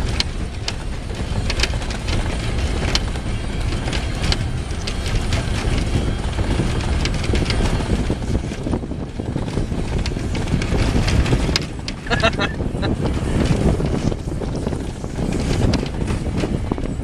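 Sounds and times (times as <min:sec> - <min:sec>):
sharp rattles and clicks: 0:00.0 - 0:17.0
truck engine and travel noise: 0:00.0 - 0:17.0.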